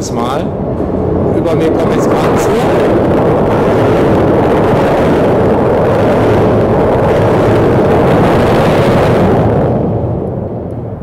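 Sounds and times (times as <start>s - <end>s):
train rumbling over bridge: 0.0s - 11.0s.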